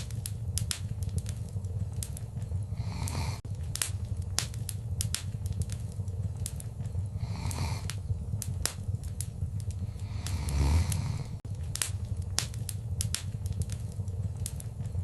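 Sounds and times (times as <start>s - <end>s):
fire hissing: 0.0s - 15.0s
wood fire crackling: 0.0s - 15.0s.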